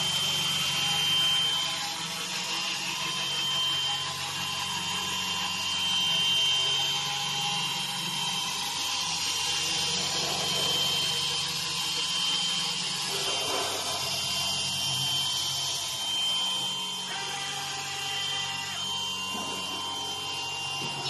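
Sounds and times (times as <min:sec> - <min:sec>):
machine cutting noise: 0:00.0 - 0:21.0
router spindle whine: 0:00.0 - 0:21.0.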